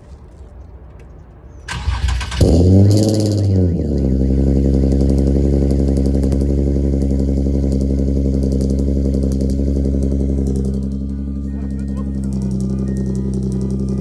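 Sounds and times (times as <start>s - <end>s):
car engine idling: 1.7s - 14.0s.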